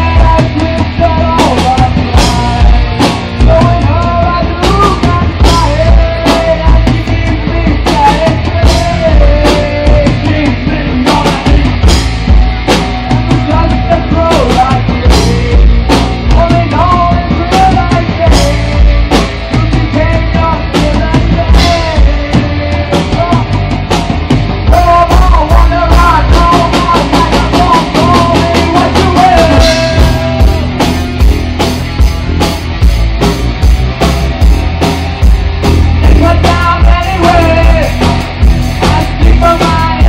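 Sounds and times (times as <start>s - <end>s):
man singing: 0.0s - 31.2s, 35.6s - 40.0s
live rock band playing: 0.0s - 40.0s.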